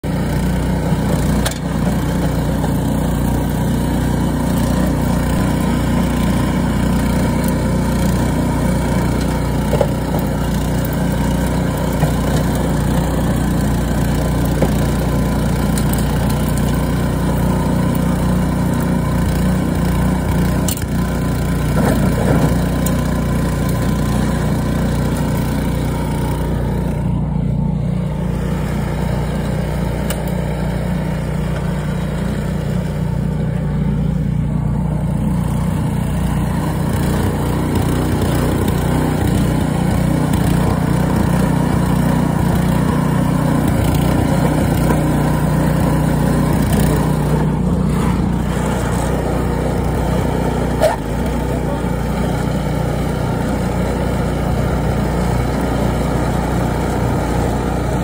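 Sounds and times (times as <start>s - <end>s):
snowblower running: 0.0s - 58.0s.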